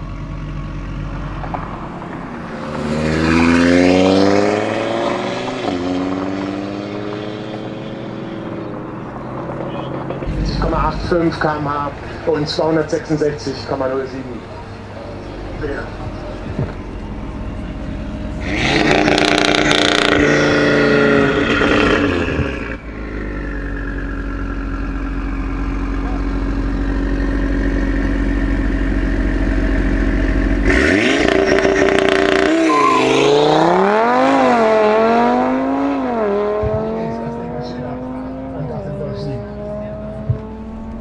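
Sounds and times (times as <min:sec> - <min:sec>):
car engine revving and accelerating: 0:01.2 - 0:41.0.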